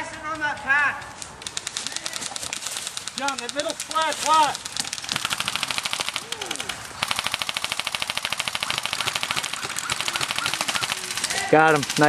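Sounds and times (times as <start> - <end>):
airsoft rifle firing full auto: 1.4 - 12.0.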